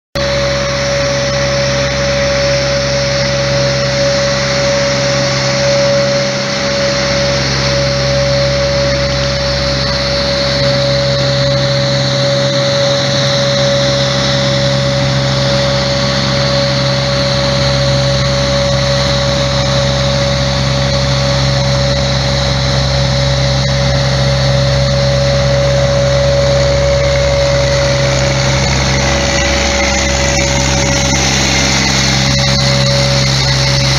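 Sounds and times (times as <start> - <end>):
mist-blower sprayer droning: 0.2 - 33.9
truck engine droning: 0.2 - 33.9.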